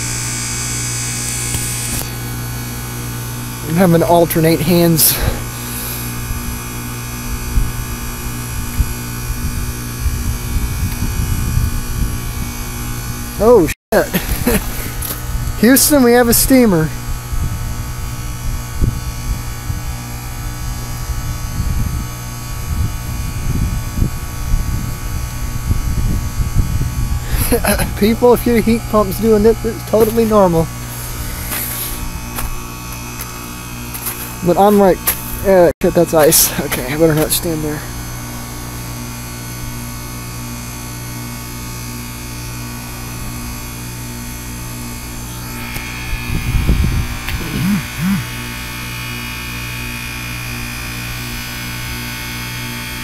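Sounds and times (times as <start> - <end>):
heat pump humming: 0.0 - 53.0.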